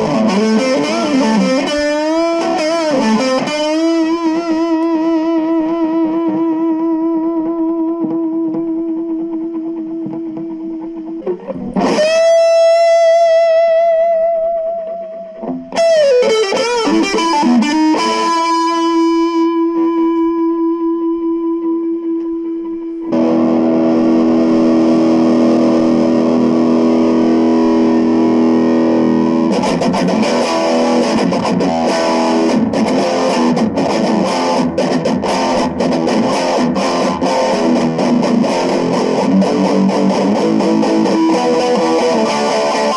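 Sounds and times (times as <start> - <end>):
electric guitar notes and chords: 0.0 - 42.9.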